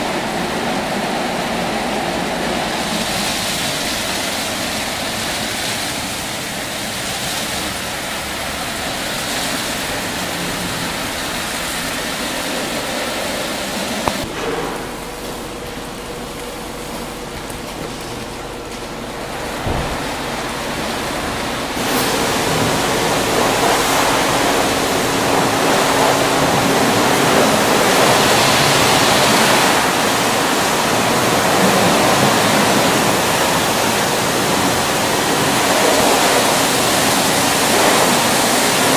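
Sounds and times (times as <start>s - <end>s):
spraying water: 0.0s - 38.9s.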